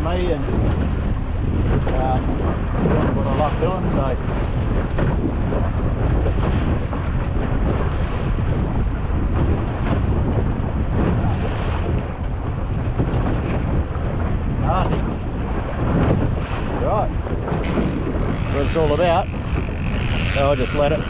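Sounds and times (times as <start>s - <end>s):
water slapping against hull: 0.0s - 21.0s
wind buffeting microphone: 0.0s - 21.0s
boat motor running: 0.4s - 21.0s.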